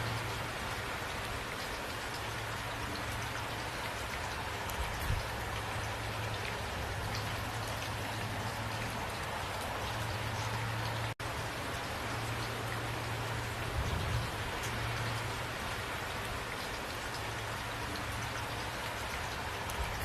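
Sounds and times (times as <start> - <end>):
raindrops striking a surface: 0.0 - 20.0
steady rain falling: 0.0 - 20.0.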